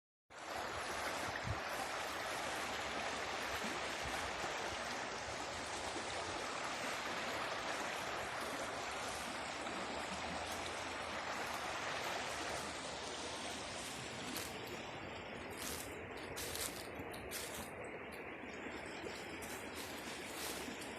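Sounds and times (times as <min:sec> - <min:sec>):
water splashes: 0:00.3 - 0:20.9
water rushing over rocks: 0:00.4 - 0:20.9.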